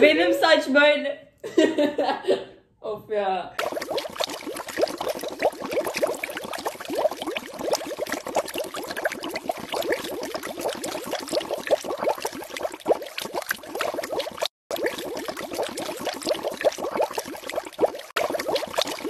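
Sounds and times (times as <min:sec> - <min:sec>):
hands splashing in water: 0:03.6 - 0:19.0.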